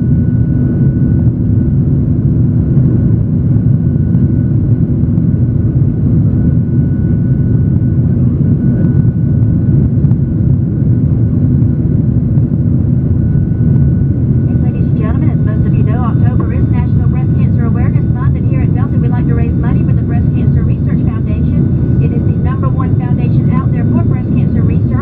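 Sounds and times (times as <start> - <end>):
faint high engine whine: 0.0 - 25.0
jet engine rumble in cabin: 0.0 - 25.0.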